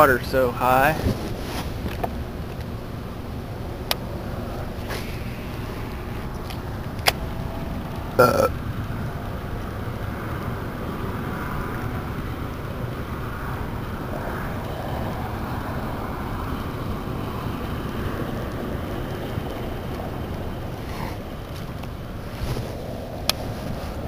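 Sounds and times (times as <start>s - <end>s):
wind rumble on microphone: 0.8s - 24.0s.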